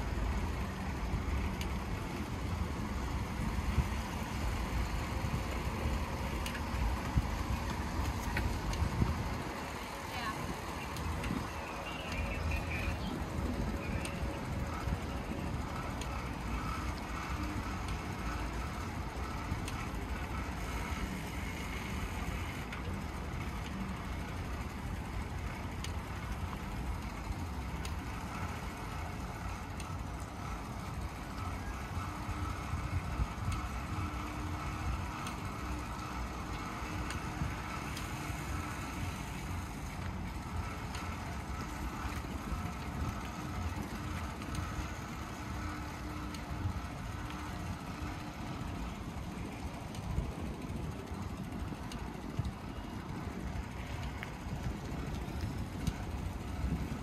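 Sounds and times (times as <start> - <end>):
bicycle rattling: 0.0 - 57.0
bicycle tyres rumbling on paving: 0.0 - 57.0.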